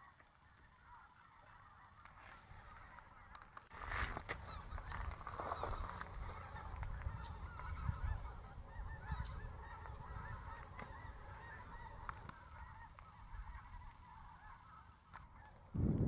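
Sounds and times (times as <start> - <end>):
geese honking in flight: 0.0 - 15.7.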